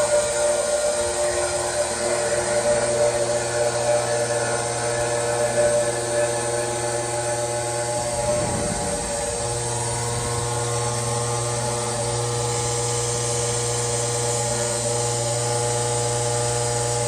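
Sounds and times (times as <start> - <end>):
milling machine whine with cutting hiss: 0.0 - 17.0.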